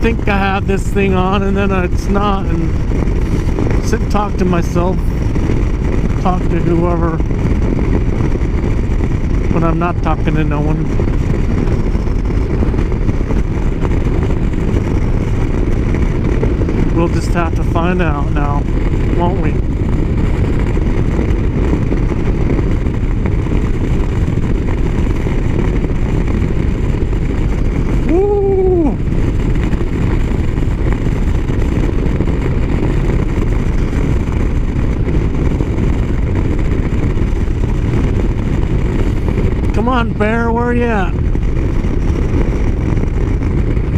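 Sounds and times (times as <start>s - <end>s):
motorcycle engine: 0.0s - 43.9s
wind on microphone: 0.0s - 43.9s.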